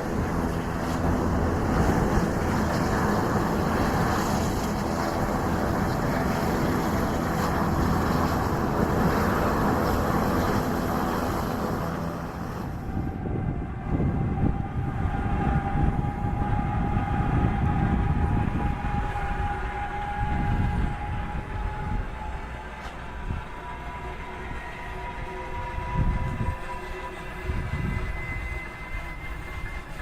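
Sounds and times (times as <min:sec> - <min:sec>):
jet engines roaring: 0:00.0 - 0:30.0
steady engine whine: 0:00.0 - 0:30.0.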